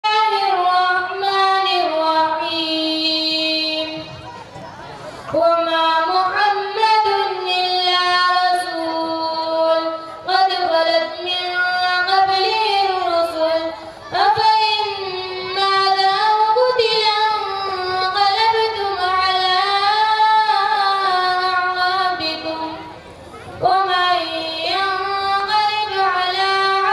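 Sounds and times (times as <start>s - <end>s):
boy chanting into a microphone: 0.0s - 26.9s.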